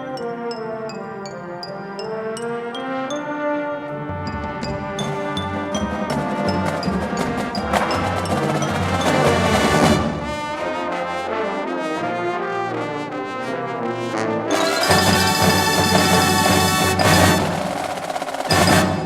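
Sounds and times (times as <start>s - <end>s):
brass ensemble sustained chords: 2.4s - 17.9s.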